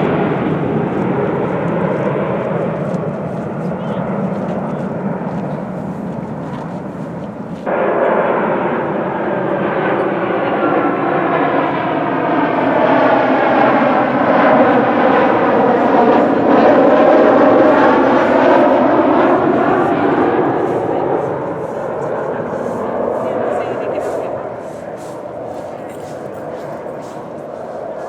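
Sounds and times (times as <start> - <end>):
jet airliner passing overhead: 0.0 - 28.0.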